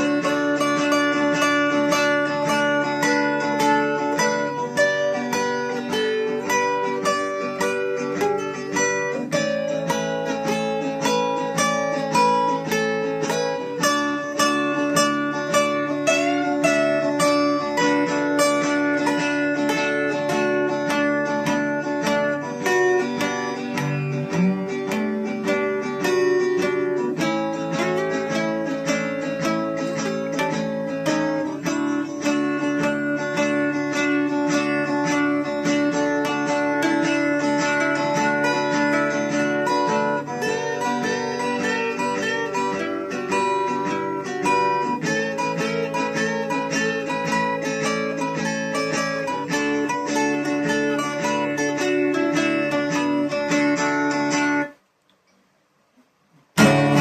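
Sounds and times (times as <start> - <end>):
acoustic guitar strumming and picking: 0.0 - 54.8, 56.5 - 57.0.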